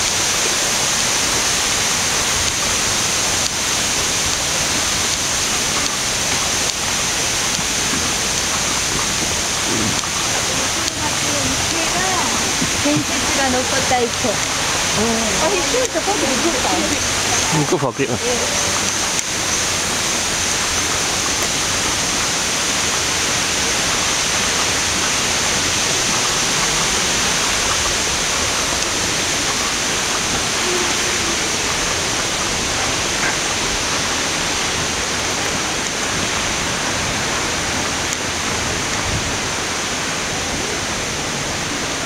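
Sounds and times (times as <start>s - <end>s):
waterfall rushing water: 0.0s - 42.0s.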